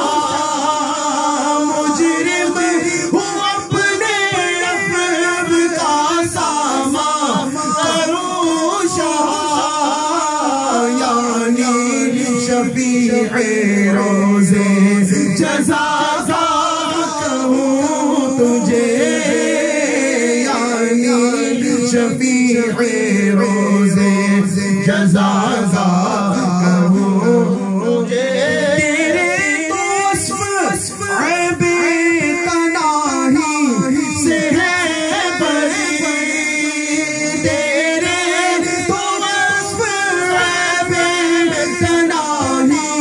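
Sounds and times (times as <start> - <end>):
men singing unaccompanied: 0.0 - 43.0.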